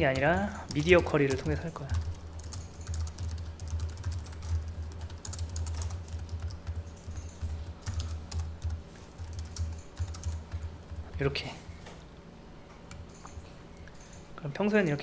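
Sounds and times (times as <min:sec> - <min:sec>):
computer keyboard typing: 0:00.0 - 0:11.5, 0:12.8 - 0:14.3
steady low hum: 0:00.0 - 0:15.0.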